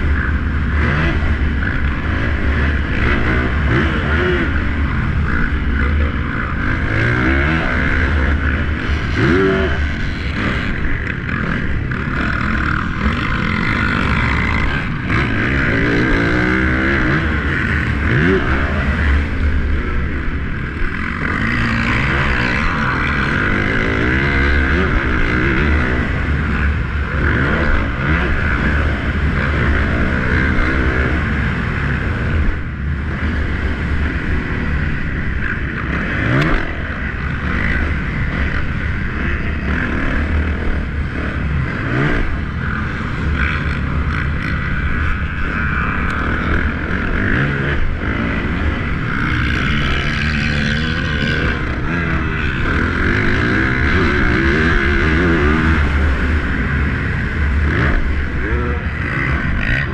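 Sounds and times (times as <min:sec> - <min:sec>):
motorcycle engine revving hard: 0:00.0 - 0:59.9.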